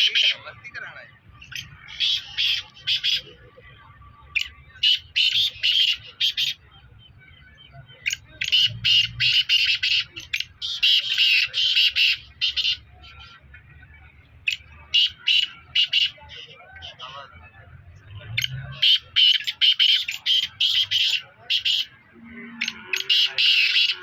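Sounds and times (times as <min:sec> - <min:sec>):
francolins calling: 0:00.0 - 0:03.6, 0:04.3 - 0:13.5, 0:14.4 - 0:17.4, 0:18.1 - 0:24.0.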